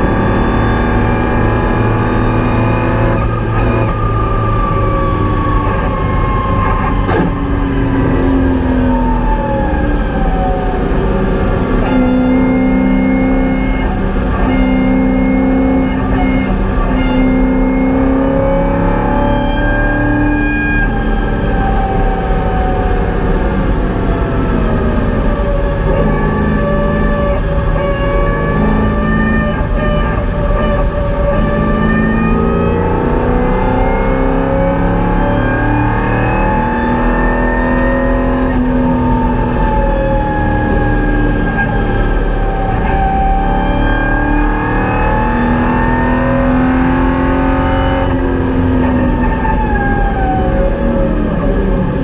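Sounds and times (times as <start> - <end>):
car engine revving: 0.0 - 52.0
road and wind noise: 0.0 - 52.0.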